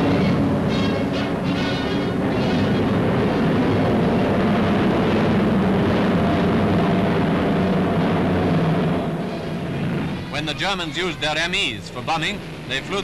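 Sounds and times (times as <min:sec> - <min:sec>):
aircraft piston engines droning: 0:00.0 - 0:13.0.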